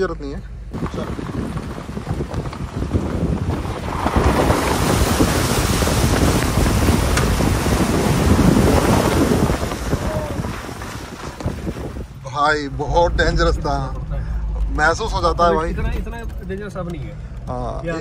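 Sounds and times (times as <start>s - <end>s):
low car rumble: 0.0s - 18.0s
water splashing against car: 0.8s - 17.5s.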